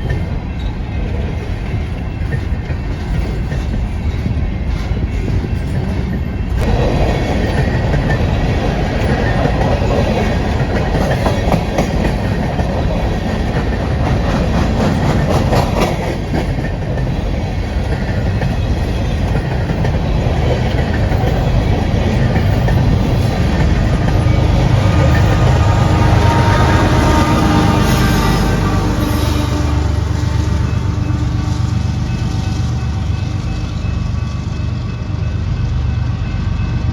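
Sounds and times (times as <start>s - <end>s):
clickety-clack over rail joints: 0.0s - 36.9s
train wheels rumbling on rails: 0.0s - 36.9s.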